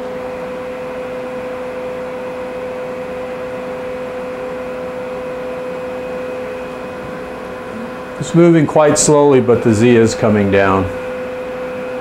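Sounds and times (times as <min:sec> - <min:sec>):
motor humming with one tone: 0:00.0 - 0:12.0.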